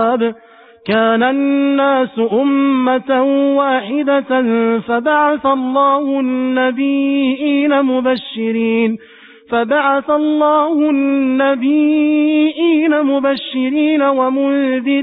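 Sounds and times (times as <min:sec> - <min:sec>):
person chanting melodic recitation: 0:00.0 - 0:09.0, 0:09.6 - 0:15.0.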